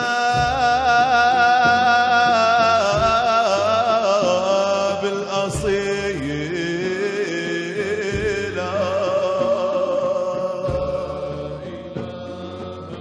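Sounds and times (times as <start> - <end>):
man singing religious song: 0.0 - 13.0.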